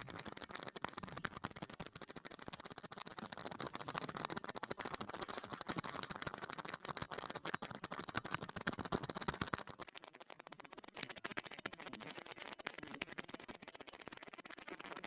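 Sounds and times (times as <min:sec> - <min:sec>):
rapid irregular clicking: 0:00.0 - 0:15.0.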